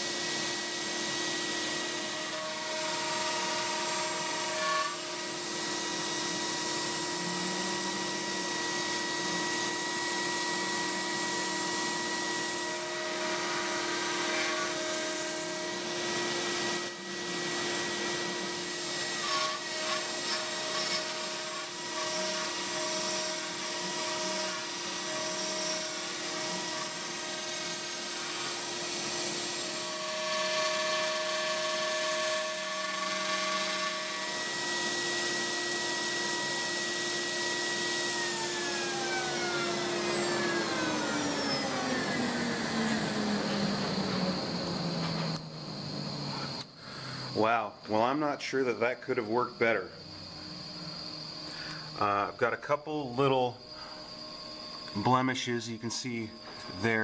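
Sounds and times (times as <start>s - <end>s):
router spindle whining: 0.0s - 57.0s.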